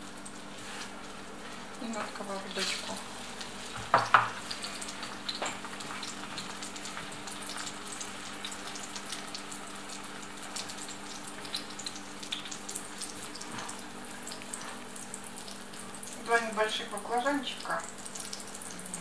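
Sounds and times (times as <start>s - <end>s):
eggplant frying in oil: 0.0s - 19.0s.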